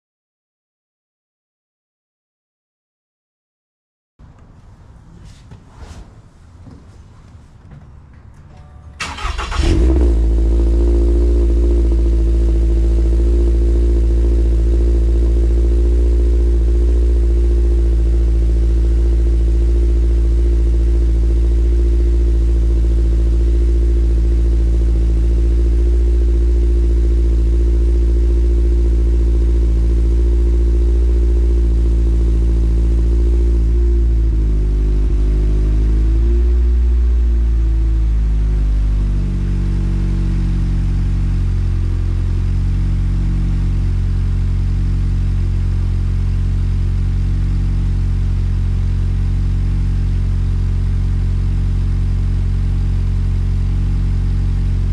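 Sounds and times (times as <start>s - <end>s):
car engine starting and idling: 4.2s - 54.9s.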